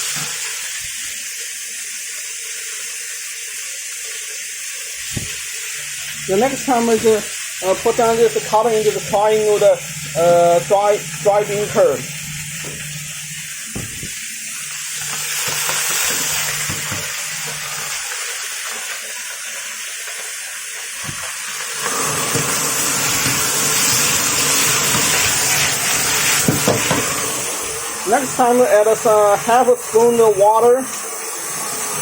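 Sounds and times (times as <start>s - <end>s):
stir-fry sizzling in a wok: 0.0s - 32.0s.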